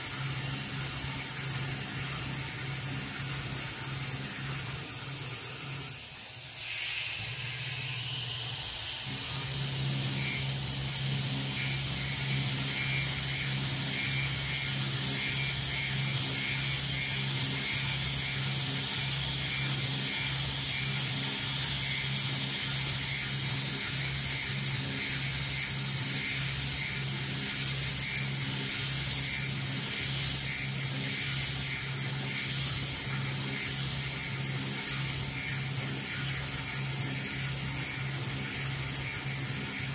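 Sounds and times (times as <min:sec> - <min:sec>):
coolant spray hiss: 0:00.0 - 0:39.9
milling machine spindle hum: 0:00.0 - 0:39.9.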